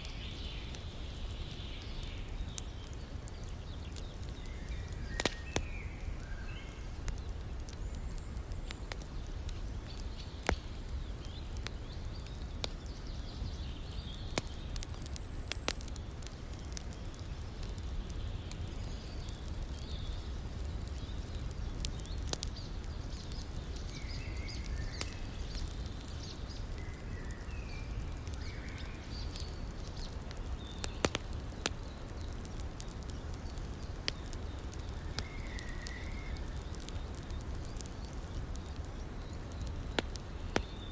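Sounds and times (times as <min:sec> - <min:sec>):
campfire crackling and popping: 0:00.0 - 0:40.9
birds chirping: 0:00.1 - 0:40.9.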